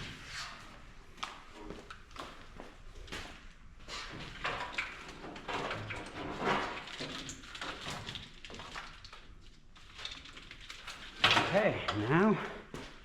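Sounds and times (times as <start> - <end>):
hands rustling and scraping wiring: 0.1 - 13.0.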